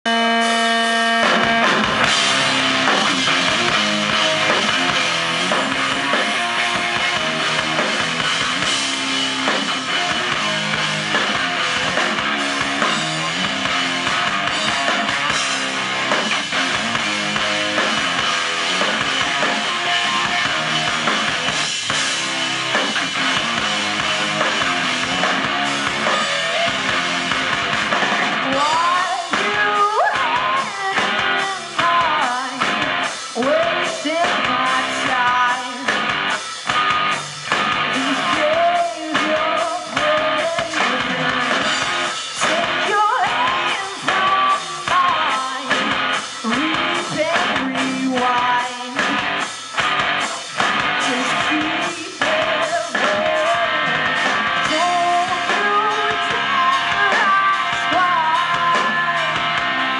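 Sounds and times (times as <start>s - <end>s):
drum kit: 0.0s - 59.9s
rock band playing: 0.0s - 59.9s.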